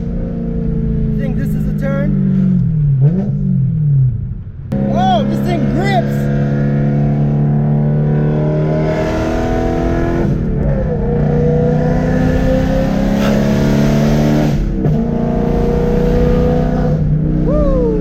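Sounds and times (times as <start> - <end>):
car exhaust under hard acceleration: 0.0 - 18.0.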